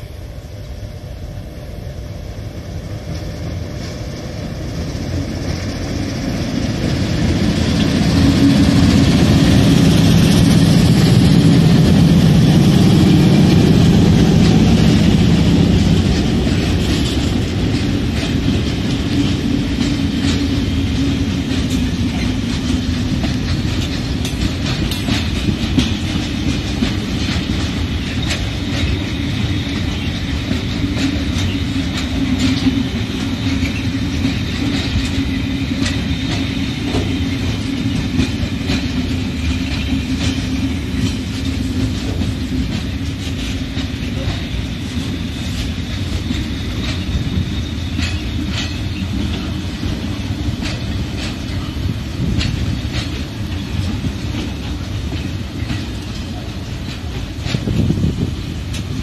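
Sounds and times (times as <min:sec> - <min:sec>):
diesel locomotive engines droning: 0:00.0 - 0:59.0
freight wagons rumbling: 0:00.0 - 0:59.0
wheels clacking over rail joints: 0:03.0 - 0:59.0.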